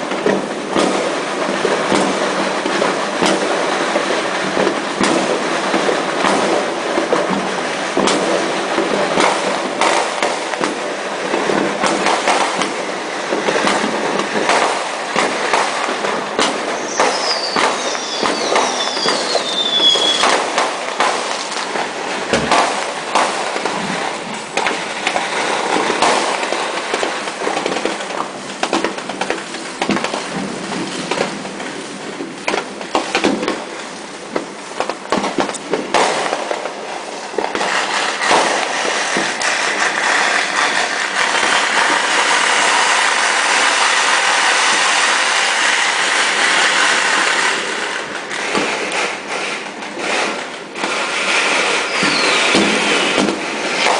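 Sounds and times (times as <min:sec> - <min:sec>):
firecrackers banging and popping: 0:00.0 - 0:53.9
whistling fireworks: 0:00.0 - 0:53.9.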